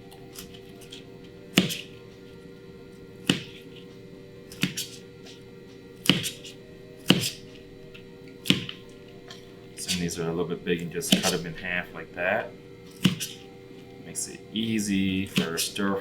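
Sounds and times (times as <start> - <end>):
faint music: 0.0 - 16.0.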